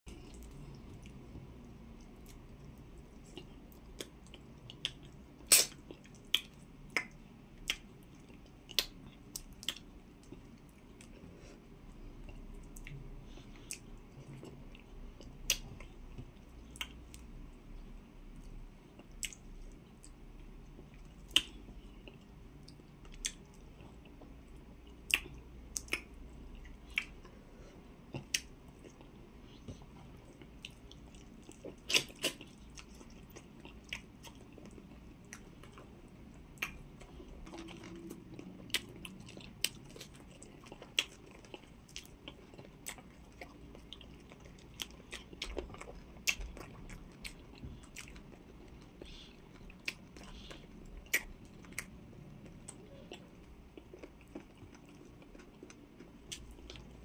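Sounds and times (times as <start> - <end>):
chewing and lip smacking: 2.0 - 11.3, 12.2 - 17.3, 18.4 - 20.2, 20.8 - 27.4, 28.1 - 57.0.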